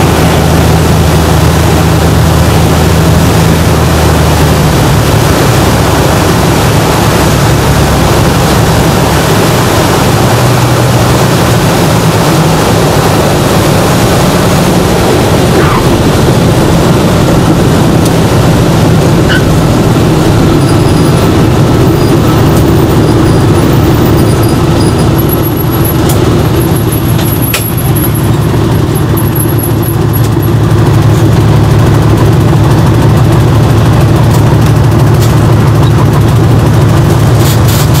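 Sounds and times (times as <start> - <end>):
propeller plane engine droning: 0.0 - 38.0.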